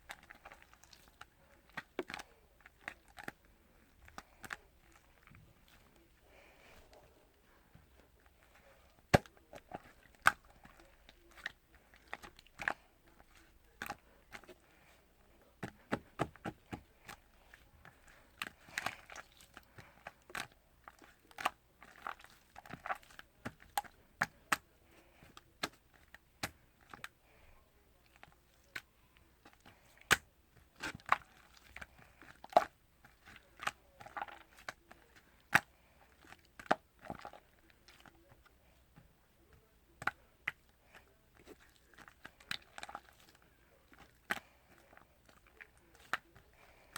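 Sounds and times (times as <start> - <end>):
wet chewing noises: 0.0 - 46.9.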